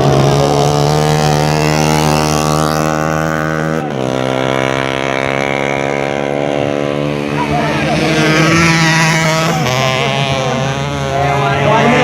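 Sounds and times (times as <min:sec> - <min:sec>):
motorcycle engines at high revs: 0:00.0 - 0:12.0.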